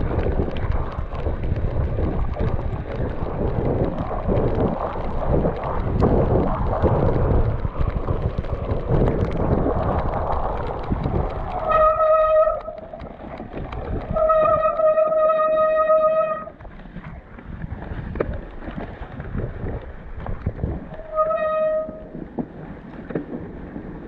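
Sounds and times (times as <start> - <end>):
bike rolling over snow: 0.0 - 24.0
wind buffeting microphone: 0.0 - 24.0.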